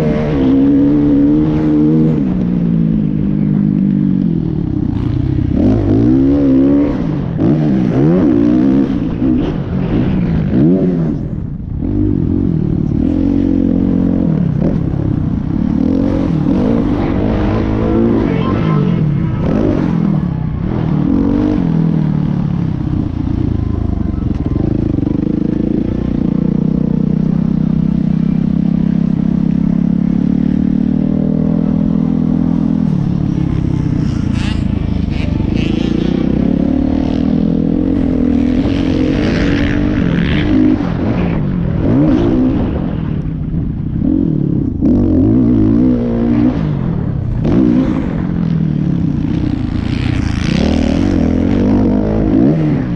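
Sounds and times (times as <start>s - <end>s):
dirt bike engines running hard: 0.0s - 52.9s.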